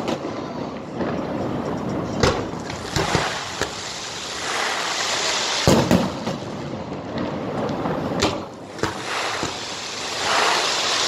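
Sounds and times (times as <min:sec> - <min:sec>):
firework bangs: 0:00.0 - 0:11.0
fireworks hissing: 0:00.0 - 0:11.0.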